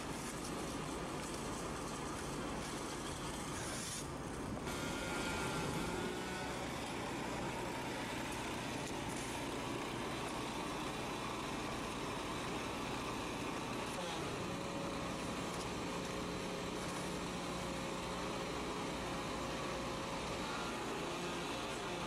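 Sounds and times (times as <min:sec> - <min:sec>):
blade cutting gravel roof: 0:00.0 - 0:22.0
small gasoline engine running: 0:00.0 - 0:22.0.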